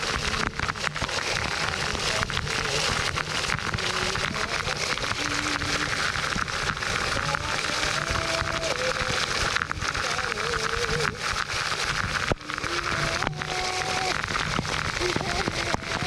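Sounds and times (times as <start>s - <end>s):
waterfall pouring and splashing: 0.0s - 16.0s.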